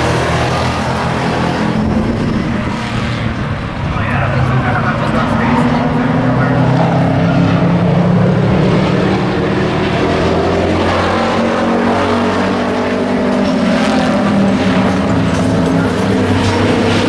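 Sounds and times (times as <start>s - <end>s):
race truck engines: 0.0s - 17.0s.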